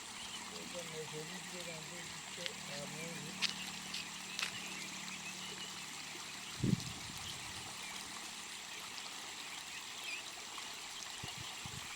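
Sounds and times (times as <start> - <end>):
stream water flowing: 0.0 - 11.9.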